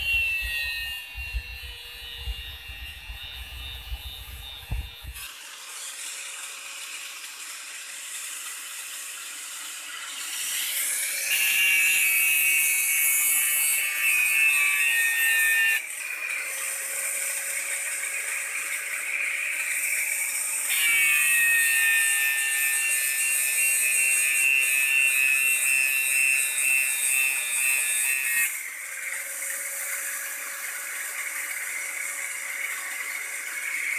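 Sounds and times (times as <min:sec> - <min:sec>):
angle grinder grinding steel: 0:00.0 - 0:33.9.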